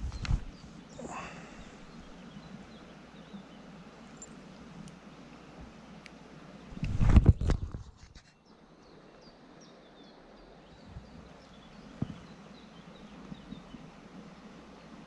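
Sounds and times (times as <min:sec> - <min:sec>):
creekside background: 0:00.0 - 0:15.0.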